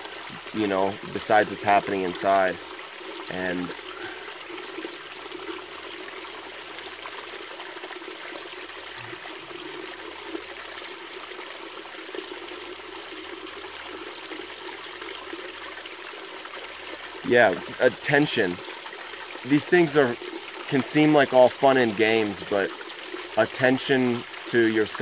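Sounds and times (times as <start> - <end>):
stream water running: 0.0 - 25.0.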